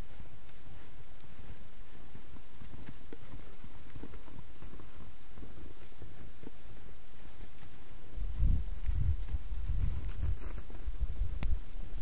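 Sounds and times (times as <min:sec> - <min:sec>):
steady hiss: 0:00.0 - 0:12.0
hoof steps in snow: 0:00.4 - 0:12.0.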